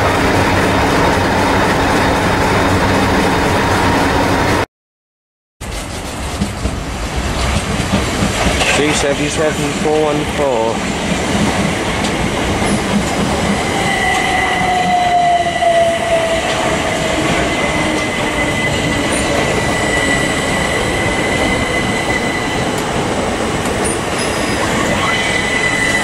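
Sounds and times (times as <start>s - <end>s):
wheels rumbling on rail: 0.0s - 4.6s, 5.6s - 26.0s.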